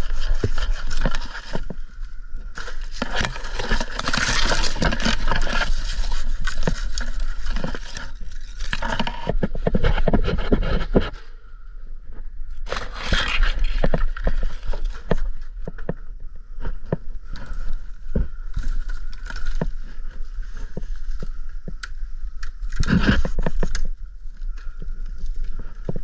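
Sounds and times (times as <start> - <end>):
palm fronds scraping and crackling: 0.0 - 11.5, 12.6 - 26.0.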